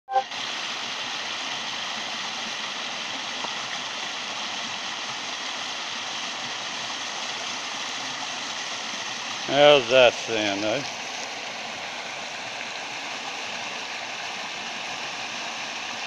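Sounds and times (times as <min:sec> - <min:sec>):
creek running over rocks: 0:00.3 - 0:16.0.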